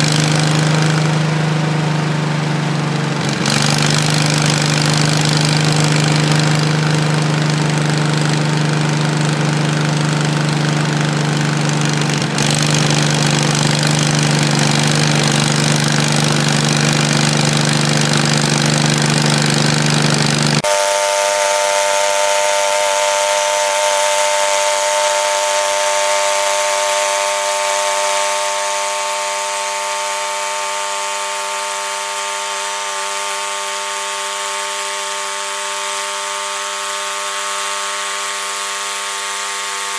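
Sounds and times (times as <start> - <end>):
gasoline engine droning: 0.0 - 39.4
saw whine: 0.0 - 39.9.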